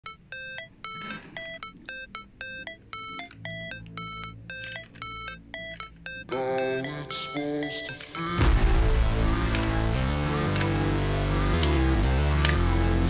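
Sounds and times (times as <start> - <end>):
electronic beeping tune: 0.0 - 12.2.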